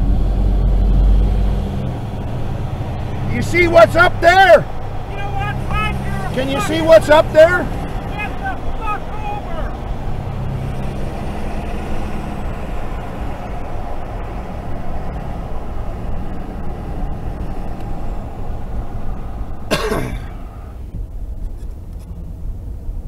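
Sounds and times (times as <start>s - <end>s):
vehicle road and engine noise: 0.0s - 23.0s.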